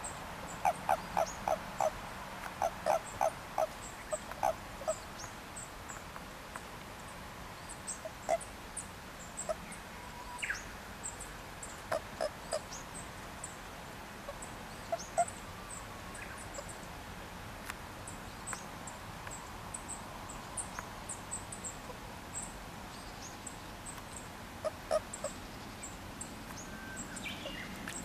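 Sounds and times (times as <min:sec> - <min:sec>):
frogs calling: 0:00.0 - 0:06.1, 0:07.7 - 0:13.6, 0:14.3 - 0:16.9, 0:18.4 - 0:28.0
small birds chirping: 0:00.0 - 0:28.0.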